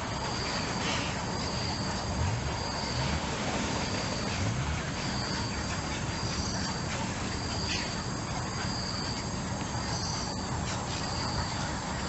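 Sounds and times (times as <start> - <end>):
background hiss: 0.0 - 12.0
insects trilling: 0.0 - 12.0.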